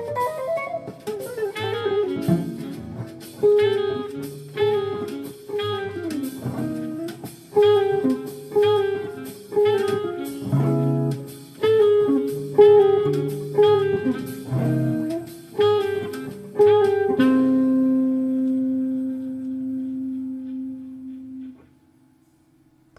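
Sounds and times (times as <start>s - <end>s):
jazz guitar playing: 0.0s - 21.8s.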